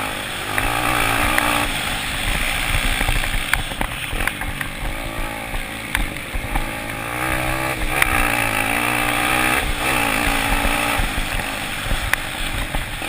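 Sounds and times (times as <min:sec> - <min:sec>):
motocross bike engine accelerating: 0:00.0 - 0:13.0
other bikes running: 0:00.0 - 0:13.0.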